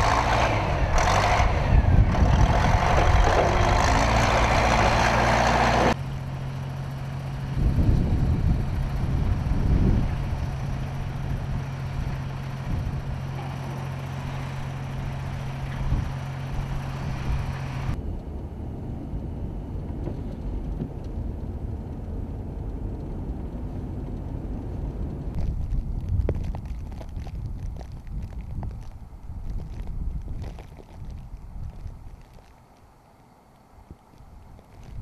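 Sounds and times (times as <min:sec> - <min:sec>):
dull rumble: 0:00.0 - 0:35.0
vehicle engine running: 0:00.0 - 0:35.0.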